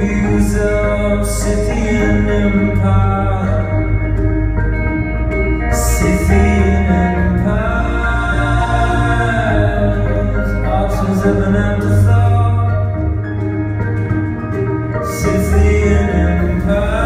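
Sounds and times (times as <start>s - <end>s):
man singing: 0.0s - 4.3s, 5.7s - 13.4s, 15.0s - 17.0s
live band playing: 0.0s - 17.0s.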